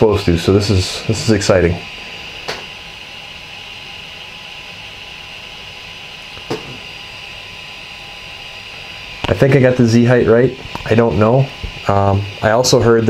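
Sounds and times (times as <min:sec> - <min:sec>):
cooling fans whining: 0:00.0 - 0:13.0.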